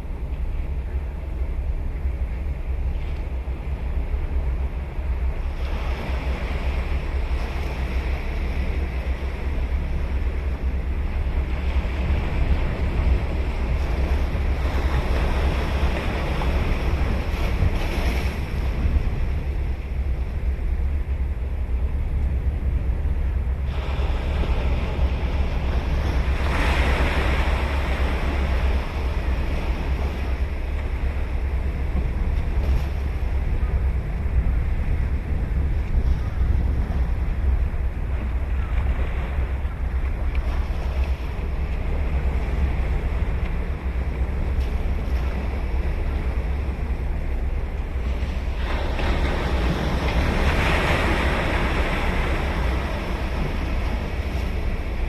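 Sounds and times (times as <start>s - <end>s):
waves breaking: 0.0s - 55.0s
wind rumble on microphone: 0.0s - 55.0s.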